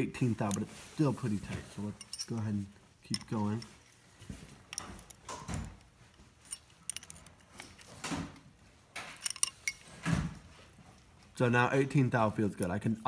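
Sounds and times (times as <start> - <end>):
wrenches clicking and clinking: 0.2 - 11.4.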